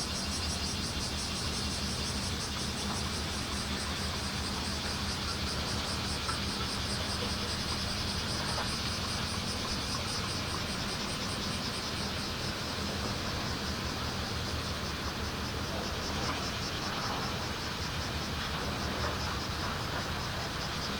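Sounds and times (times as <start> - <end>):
cicadas buzzing: 0.0 - 20.9.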